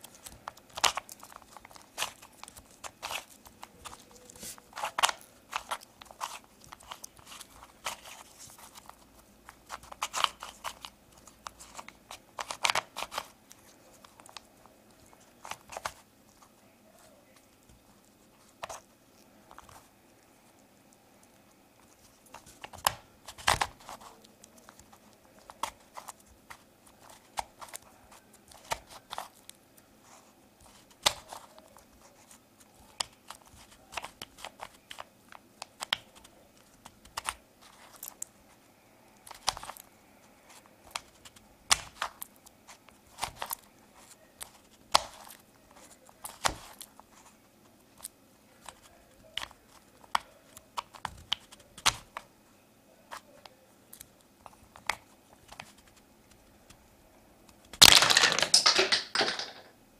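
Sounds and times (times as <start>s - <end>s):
puzzle cube clicking and scraping: 0.0s - 18.9s, 21.2s - 29.5s, 30.1s - 38.4s, 39.2s - 52.3s.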